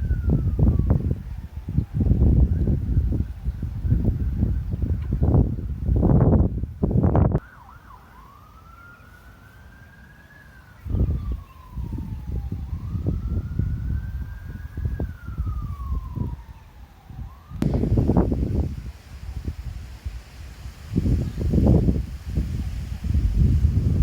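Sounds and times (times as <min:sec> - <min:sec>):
faint siren wailing: 0:00.0 - 0:04.9, 0:07.4 - 0:24.0
wind rumbling on microphone: 0:00.0 - 0:07.4, 0:10.7 - 0:24.0.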